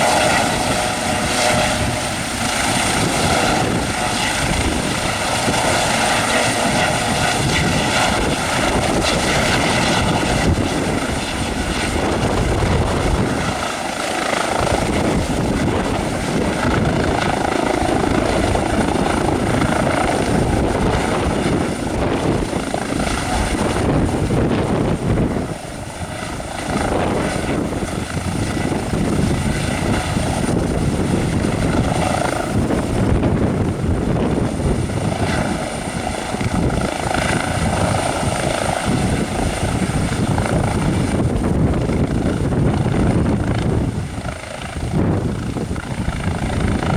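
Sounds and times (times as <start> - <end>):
helicopter rotor beating: 0.0 - 46.9
helicopter turbine whine: 0.0 - 46.9.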